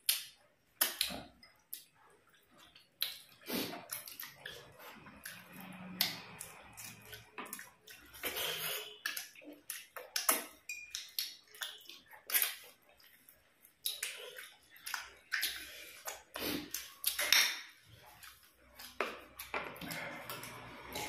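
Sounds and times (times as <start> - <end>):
lip smacking: 0.0 - 21.0
people eating with wet chewing: 0.0 - 21.0.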